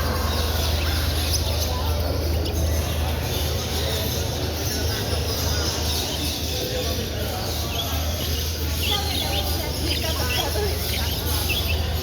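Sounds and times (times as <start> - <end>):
caged birds chirping: 0.0 - 12.0
crowd chatter: 0.0 - 12.0.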